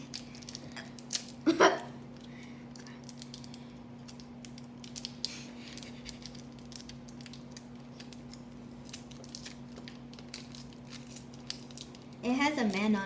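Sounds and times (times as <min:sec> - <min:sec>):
steady low hum: 0:00.0 - 0:13.0
wrapper crinkling: 0:00.0 - 0:13.0.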